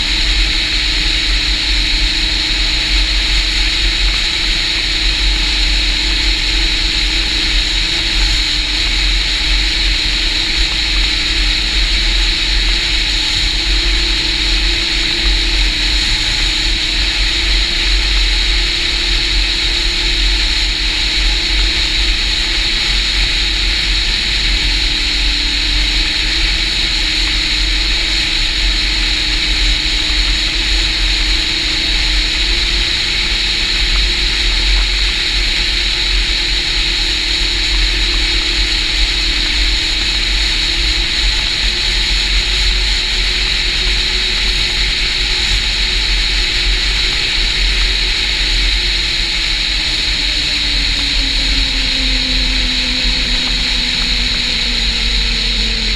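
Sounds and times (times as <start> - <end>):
snowmobile engine running: 0.0 - 55.9
track hissing on packed snow: 0.0 - 55.9
wind rumble on microphone: 0.0 - 55.9.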